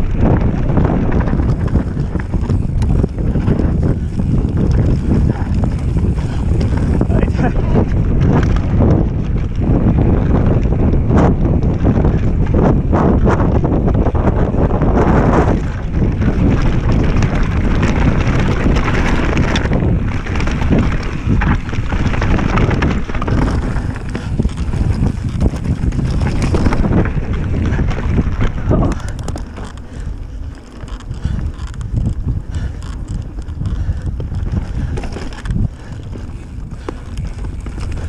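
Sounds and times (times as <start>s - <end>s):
bike knocking and rattling: 0.0s - 38.0s
tyre noise on dirt: 0.0s - 38.0s
wind buffeting microphone: 0.0s - 38.0s.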